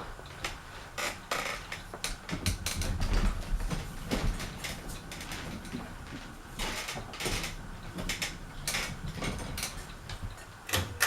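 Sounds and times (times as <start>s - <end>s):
ceiling fan clicks and rattles: 0.0s - 11.0s.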